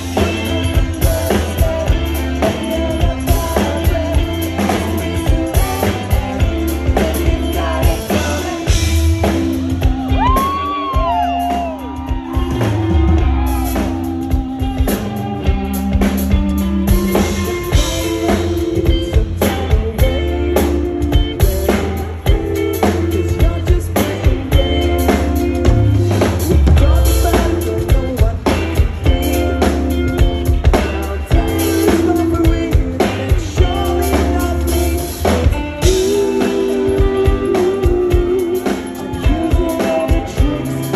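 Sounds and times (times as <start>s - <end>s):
drum kit beat: 0.0s - 40.9s
electric bass: 0.0s - 40.9s
electric guitars: 0.0s - 40.9s
person singing lead vocal: 0.0s - 40.9s.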